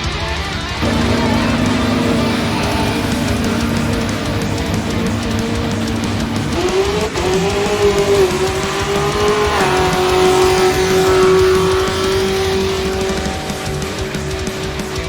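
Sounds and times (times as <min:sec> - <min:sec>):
car engine revving: 0:00.8 - 0:15.0
tires squealing: 0:00.8 - 0:15.0.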